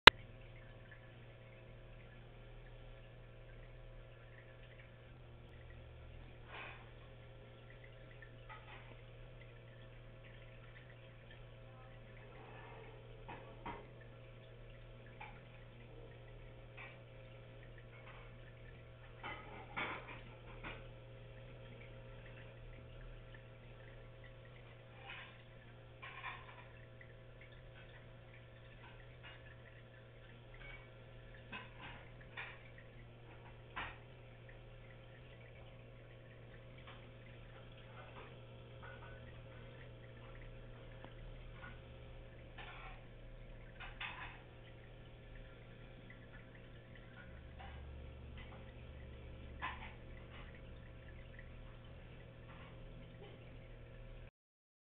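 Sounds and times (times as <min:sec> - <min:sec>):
steady low hum: 0:00.0 - 0:54.3.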